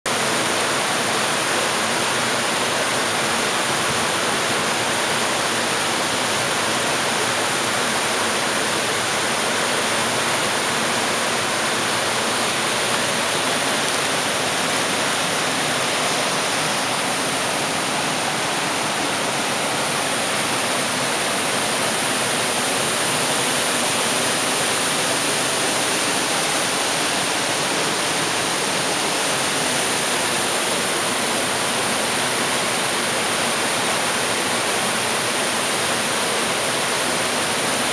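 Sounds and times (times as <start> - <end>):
water rushing through weir: 0.1 - 37.9.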